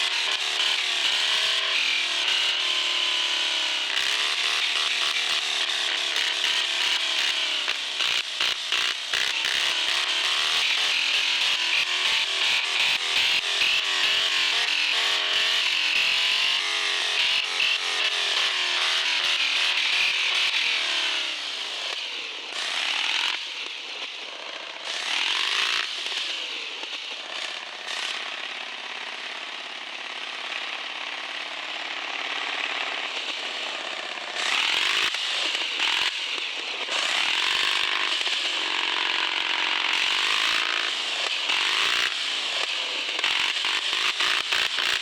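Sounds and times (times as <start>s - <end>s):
toy truck electric motor whining: 0.0s - 23.8s, 24.7s - 45.0s.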